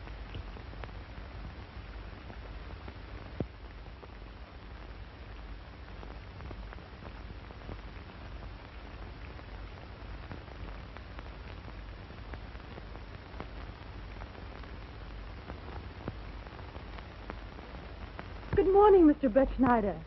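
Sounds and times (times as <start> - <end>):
crackles and pops: 0.0 - 20.0
film soundtrack hiss: 0.0 - 20.0.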